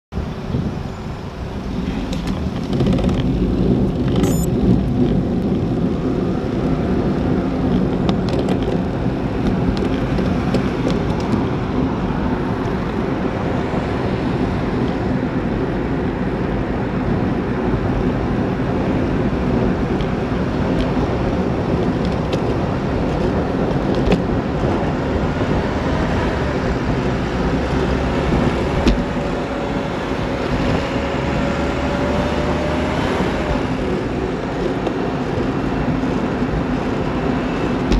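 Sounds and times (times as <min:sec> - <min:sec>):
bus whine: 0:00.1 - 0:37.9
road traffic: 0:00.1 - 0:37.9
wind rushing over microphone: 0:00.1 - 0:37.9.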